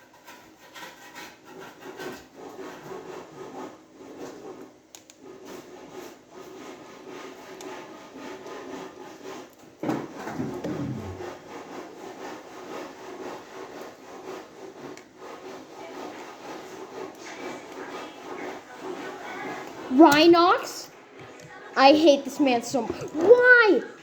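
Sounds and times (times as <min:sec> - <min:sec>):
plastic parts rubbing and scraping: 0:00.0 - 0:24.0.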